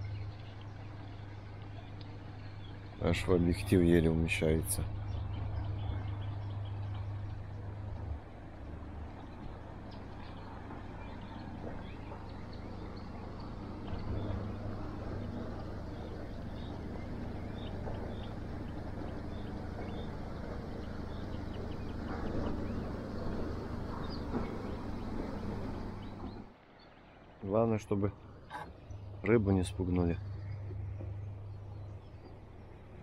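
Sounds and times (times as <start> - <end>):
ship engines droning: 0.0 - 33.0.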